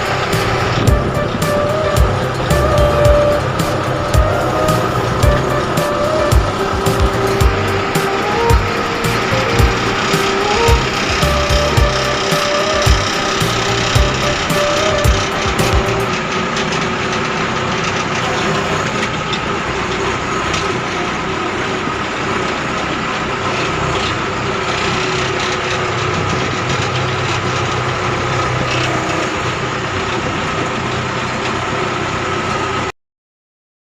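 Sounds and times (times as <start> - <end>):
combine harvester running: 0.0 - 32.9.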